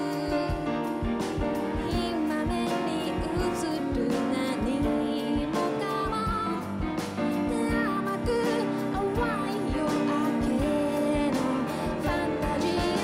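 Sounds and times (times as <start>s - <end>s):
drums with steady low beat: 0.0s - 13.0s
piano: 0.0s - 13.0s
woman singing into a microphone: 0.0s - 13.0s.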